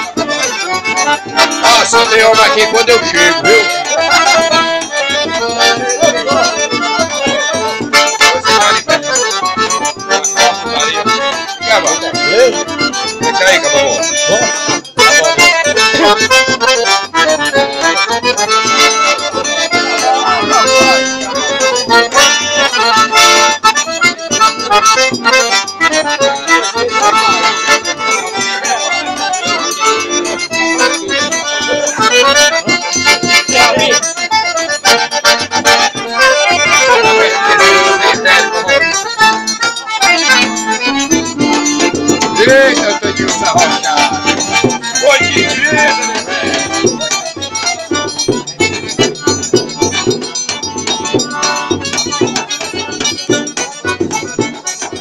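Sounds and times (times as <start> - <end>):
piano accordion tune: 0.0 - 55.0.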